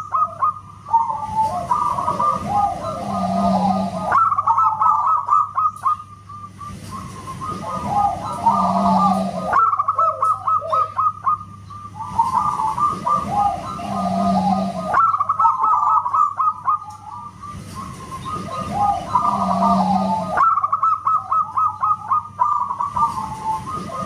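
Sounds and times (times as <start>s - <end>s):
dove cooing: 0.0s - 24.0s
steady low hum: 0.0s - 24.0s.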